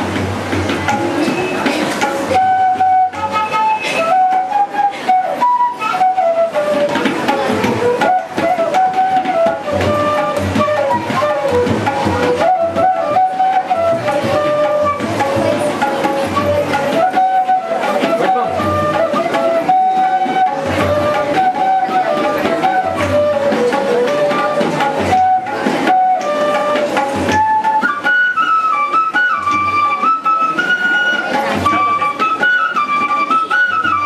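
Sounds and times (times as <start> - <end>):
bamboo flute melody: 0.0 - 34.0
tabla drum strokes: 0.0 - 34.0.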